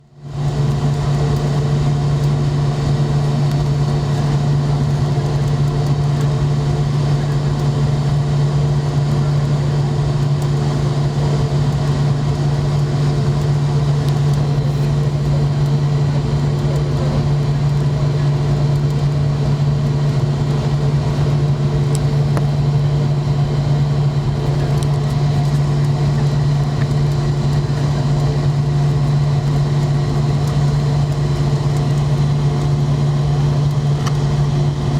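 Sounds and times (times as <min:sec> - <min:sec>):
jet airliner engine drone: 0:00.0 - 0:34.9.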